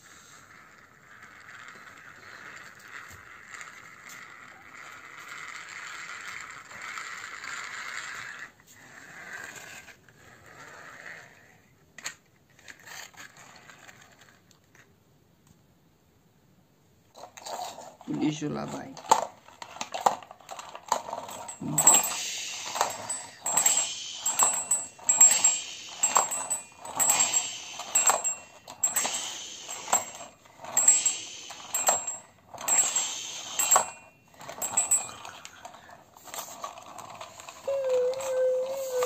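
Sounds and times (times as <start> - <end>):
toy wheels rolling on concrete: 0.0 - 15.0, 17.1 - 39.0.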